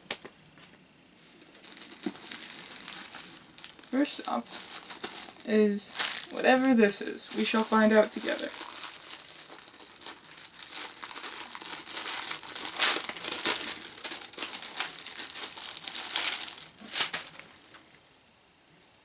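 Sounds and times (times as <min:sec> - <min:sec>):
packaging crinkling: 0:01.4 - 0:18.0.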